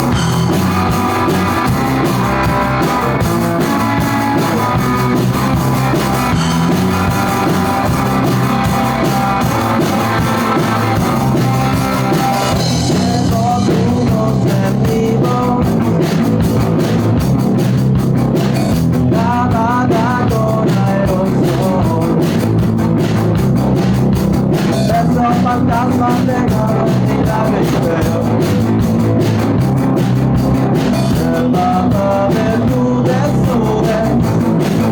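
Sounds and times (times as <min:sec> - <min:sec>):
loud rock music: 0:00.0 - 0:34.9.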